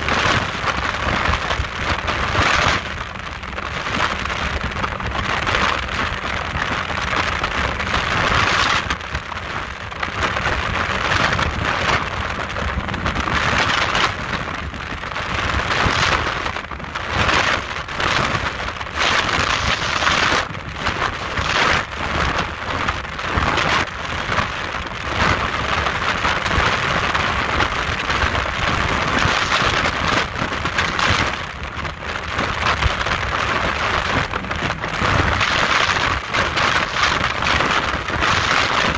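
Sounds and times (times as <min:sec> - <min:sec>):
speedboat engine drone: 0:00.0 - 0:38.9
wind rushing past microphone: 0:00.0 - 0:38.9.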